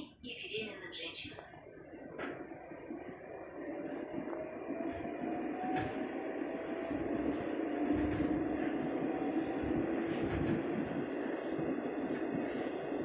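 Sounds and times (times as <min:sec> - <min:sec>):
wheels rumbling on rail: 0:00.4 - 0:13.0
train motor whine rising: 0:01.6 - 0:13.0.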